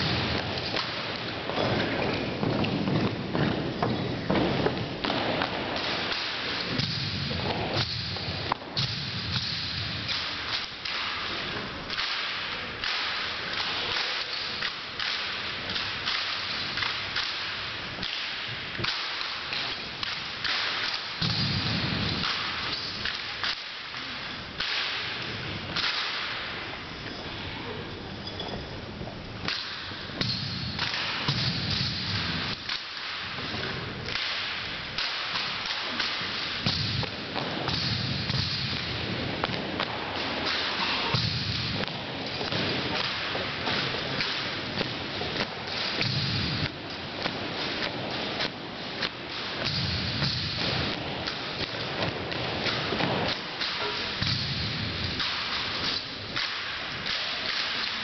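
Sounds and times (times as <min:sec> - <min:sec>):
rifles slapped and caught: 0:00.0 - 0:26.7, 0:29.4 - 0:58.0.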